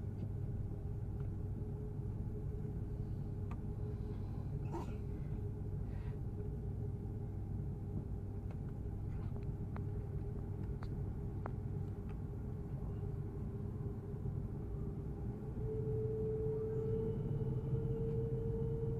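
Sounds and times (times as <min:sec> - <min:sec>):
aircraft cabin rumble and hum: 0:00.0 - 0:18.9.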